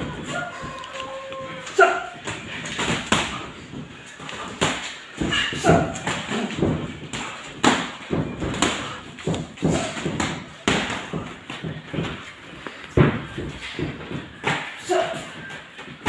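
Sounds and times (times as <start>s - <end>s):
boxing gloves thudding: 2.2s - 16.0s.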